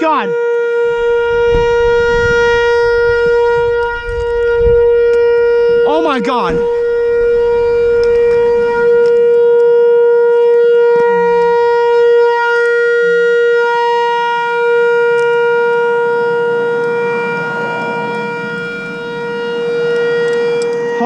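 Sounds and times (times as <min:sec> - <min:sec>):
electronic warning siren steady tone: 0:00.0 - 0:21.0.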